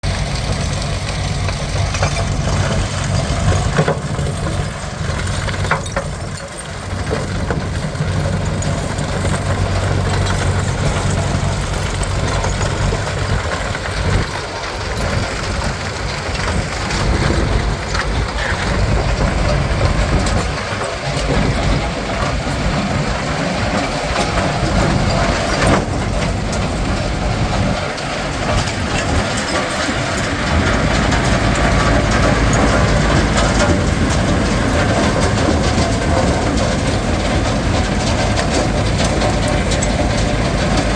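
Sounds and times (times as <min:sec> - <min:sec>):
diesel engine hum: 0:00.0 - 0:40.9
machinery clatter: 0:00.0 - 0:40.9.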